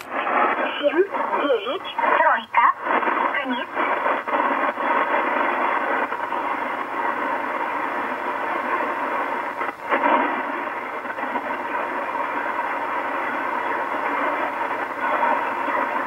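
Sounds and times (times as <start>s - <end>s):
shortwave radio static hiss: 0.0s - 16.0s.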